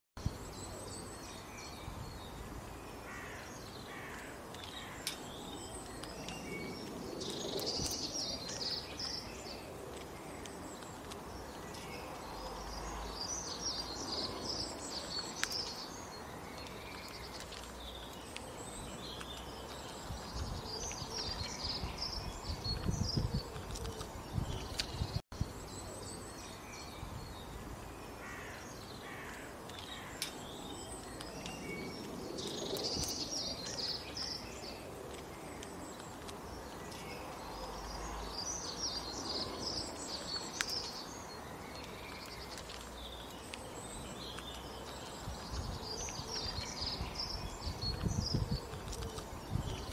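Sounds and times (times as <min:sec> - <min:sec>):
songbirds chirping and singing: 0:00.2 - 0:49.9.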